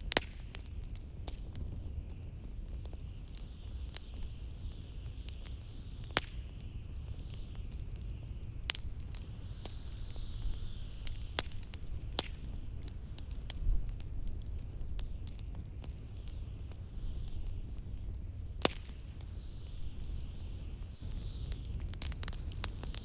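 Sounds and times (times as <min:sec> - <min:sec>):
low rumble of blizzard wind: 0:00.0 - 0:23.0
wood fire crackling and popping: 0:00.0 - 0:23.0.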